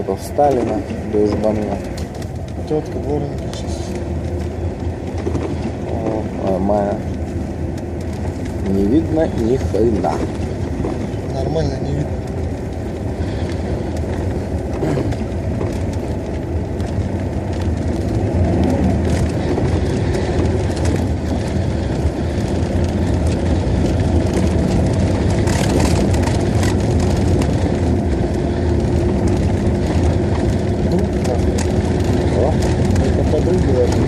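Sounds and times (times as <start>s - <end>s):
car engine hum: 0.0s - 34.0s
road and tyre noise: 0.0s - 34.0s.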